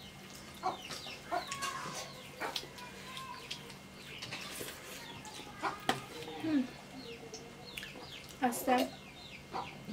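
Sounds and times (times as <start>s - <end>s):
chickens clucking: 0.4s - 9.9s.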